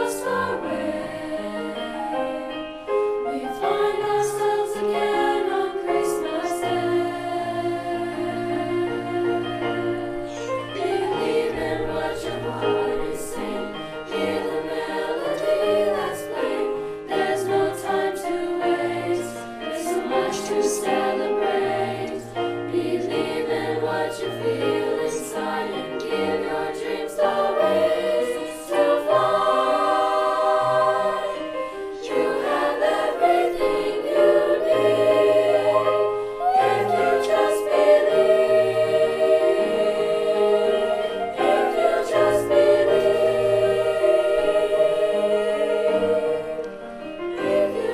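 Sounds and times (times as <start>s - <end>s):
choir singing in parts: 0.0s - 47.9s.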